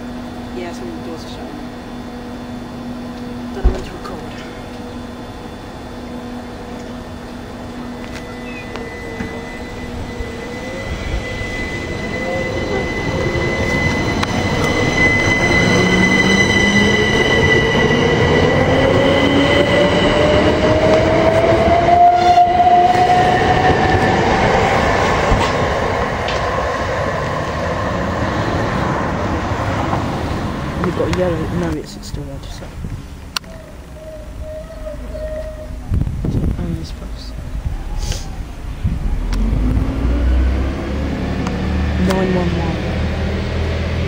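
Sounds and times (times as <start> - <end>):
electric train motors whining: 0.0 - 44.0
steady high tone: 0.0 - 44.0
wheels rumbling on rail: 0.0 - 44.0.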